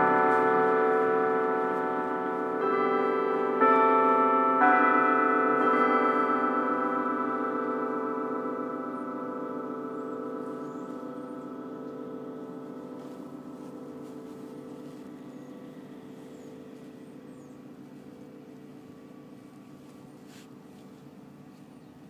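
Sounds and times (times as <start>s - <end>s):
church bells chiming: 0.0s - 21.8s.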